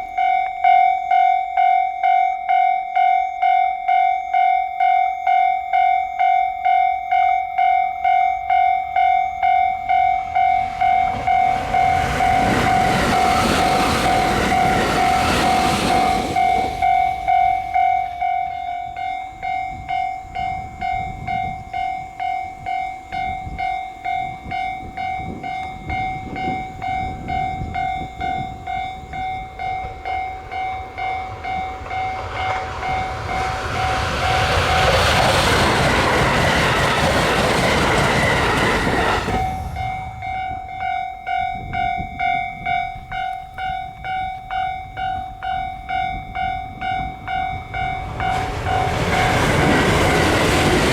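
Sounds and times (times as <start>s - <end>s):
level-crossing warning bell: 0.0s - 50.9s
train passing: 0.0s - 50.9s.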